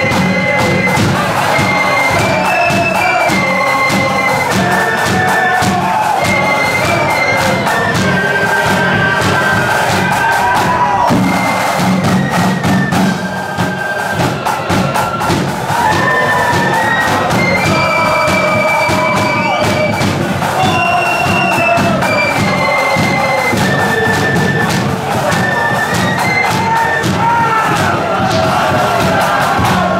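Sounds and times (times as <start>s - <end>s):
shrill flutes playing melody: 0.0s - 29.9s
snare and bass drum beats: 0.0s - 29.9s.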